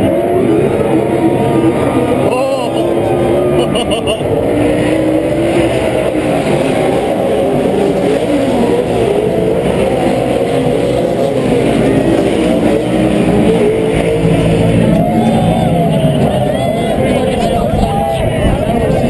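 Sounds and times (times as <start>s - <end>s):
race truck engines revving: 0.0s - 19.0s.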